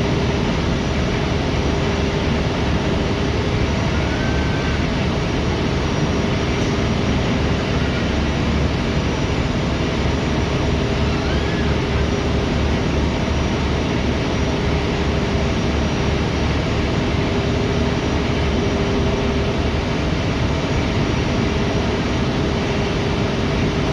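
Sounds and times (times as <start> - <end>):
ferry engine drone: 0.0 - 23.9.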